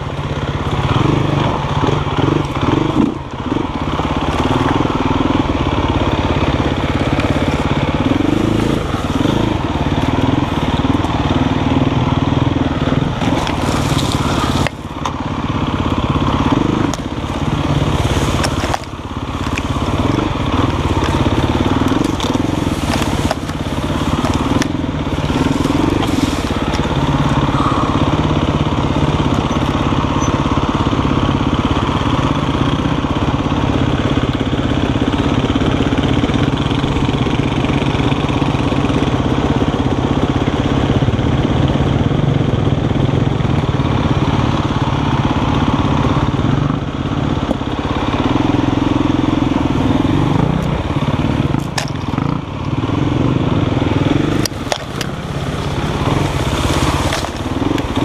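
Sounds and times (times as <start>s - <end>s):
branches scraping against bike: 0.0s - 32.3s, 43.5s - 58.0s
dirt bike engine running: 0.0s - 58.0s.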